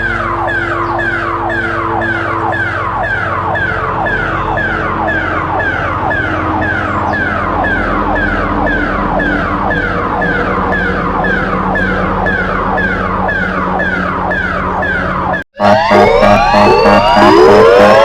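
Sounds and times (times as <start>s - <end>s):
falling electronic alarm sweep: 0.0s - 18.0s
low steady drone: 0.0s - 18.0s.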